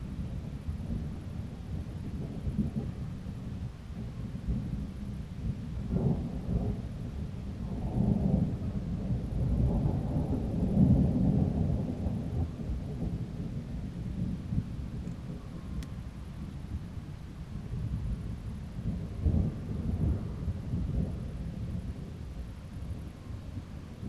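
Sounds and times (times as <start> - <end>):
rolling thunder: 0.0 - 24.0.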